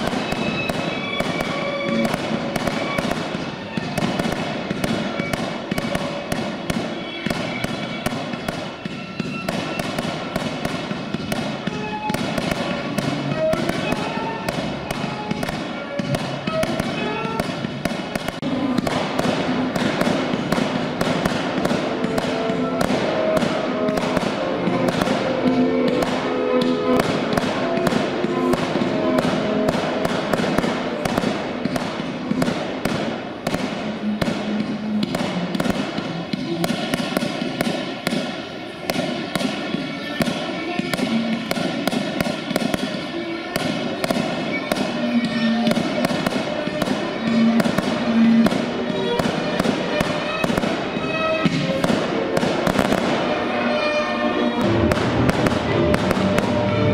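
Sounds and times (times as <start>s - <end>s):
music playing: 0.0s - 36.9s, 37.6s - 56.9s
fireworks bangs and crackles: 0.0s - 56.9s.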